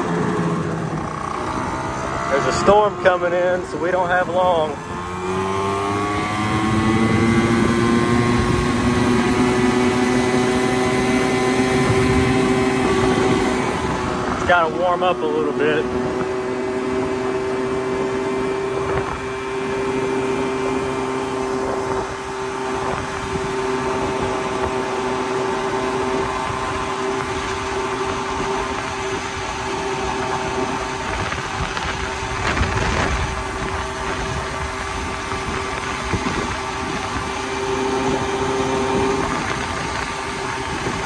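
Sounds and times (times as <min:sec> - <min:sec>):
scooter engine running: 0:00.0 - 0:41.0
wind on microphone: 0:00.0 - 0:41.0.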